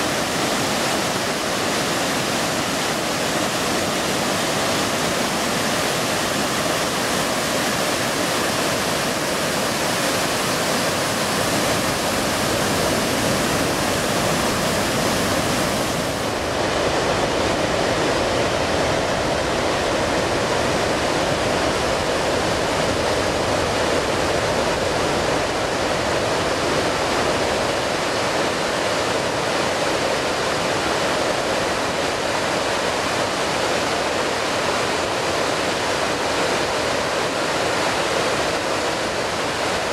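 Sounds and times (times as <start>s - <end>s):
river water crashing down rapids: 0.0s - 39.9s.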